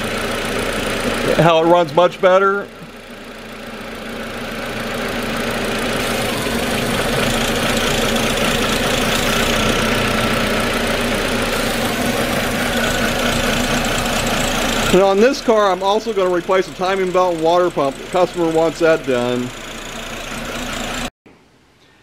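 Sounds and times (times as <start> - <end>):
car engine idling: 0.0 - 21.1.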